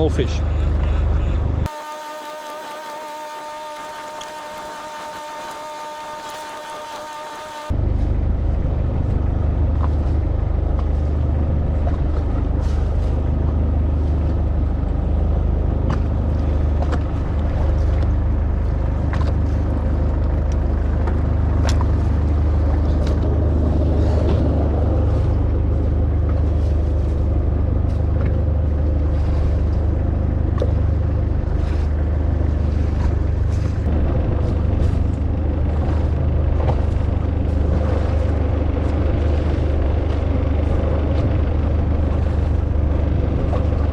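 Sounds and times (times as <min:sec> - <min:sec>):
boat engine drone: 0:00.0 - 0:43.9.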